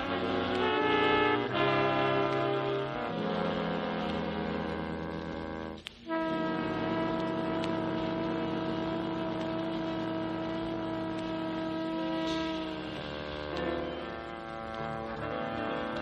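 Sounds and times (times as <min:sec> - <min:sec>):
jazz brass and saxophones chord: 0:00.0 - 0:16.0.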